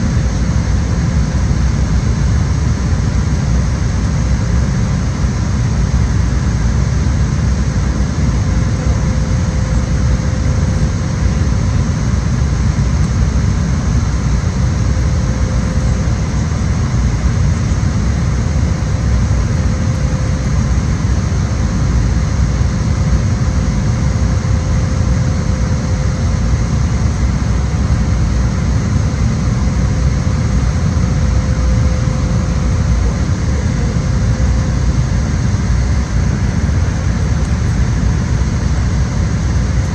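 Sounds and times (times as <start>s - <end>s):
airliner cabin engine rumble: 0.0s - 39.9s
faint steady hum: 0.0s - 39.9s.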